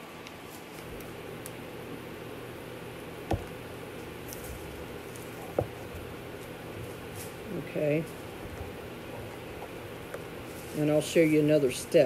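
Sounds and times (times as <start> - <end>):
low hiss and hum: 0.0 - 12.0.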